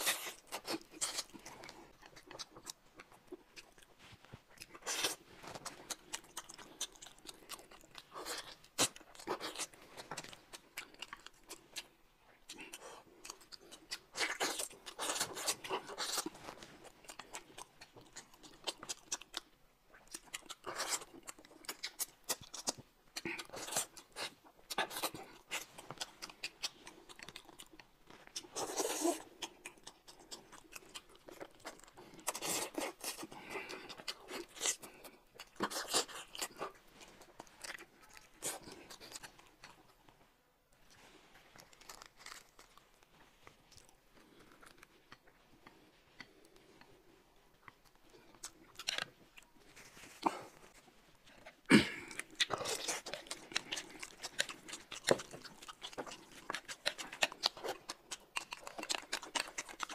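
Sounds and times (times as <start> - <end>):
lettuce crunching and tearing: 0.0 - 3.9, 4.5 - 11.9, 12.5 - 39.8, 41.5 - 43.1, 47.6 - 59.9
chewing: 0.0 - 59.9.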